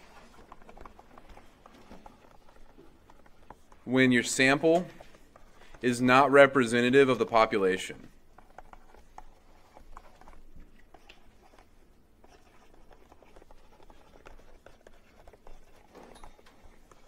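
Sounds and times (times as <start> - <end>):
stylus writing on tablet screen: 0.0 - 17.0.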